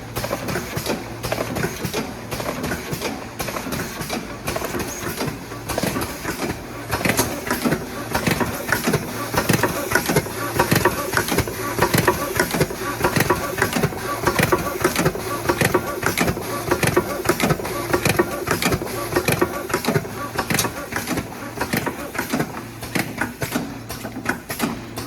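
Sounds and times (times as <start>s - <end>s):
labeling machine clattering: 0.0s - 25.0s.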